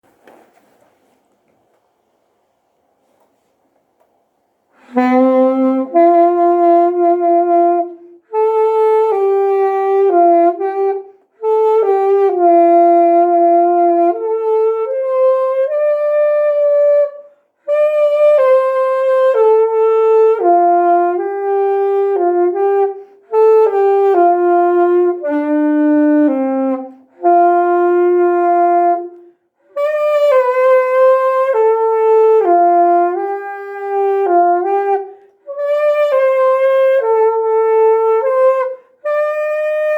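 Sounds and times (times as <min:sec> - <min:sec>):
solo wind instrument melody: 0:04.8 - 0:39.9.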